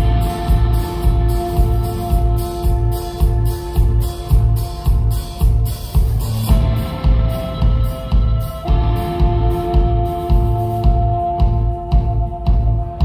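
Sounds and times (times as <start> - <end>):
bass guitar: 0.0 - 13.0
drum beat with cymbals: 0.0 - 13.0
electric guitars: 0.0 - 13.0.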